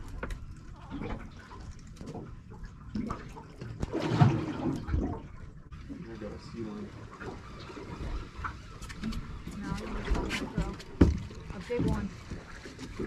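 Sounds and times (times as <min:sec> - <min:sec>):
water slapping against boat hull: 0:00.0 - 0:05.4, 0:07.2 - 0:13.0
water splash: 0:00.0 - 0:13.0.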